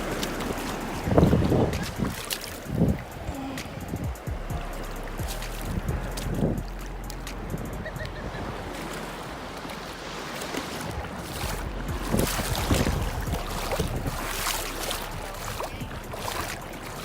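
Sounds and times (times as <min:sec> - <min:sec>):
small waves washing in: 0:00.0 - 0:17.0
wind buffeting microphone: 0:00.0 - 0:17.0.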